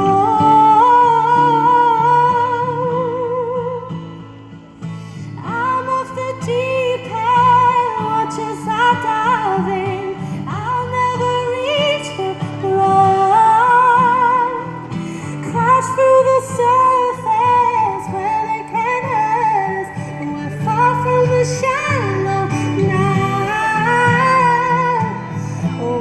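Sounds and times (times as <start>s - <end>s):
woman singing with vibrato: 0.0s - 4.2s, 5.3s - 26.0s.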